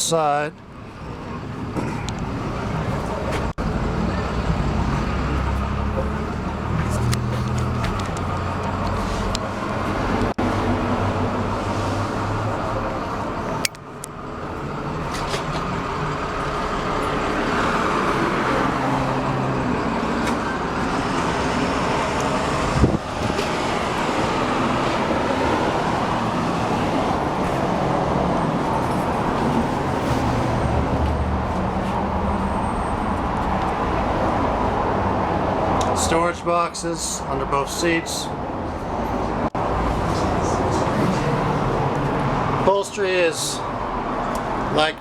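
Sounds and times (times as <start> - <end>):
street traffic: 0.0 - 45.0.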